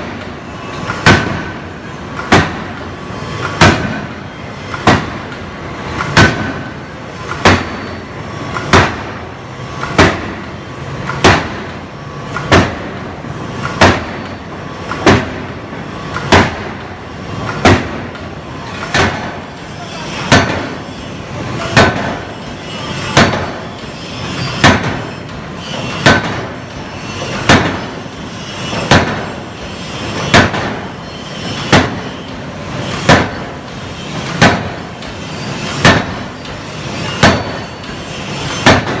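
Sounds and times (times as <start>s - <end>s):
forging hammer heavy blows: 0.0s - 39.0s.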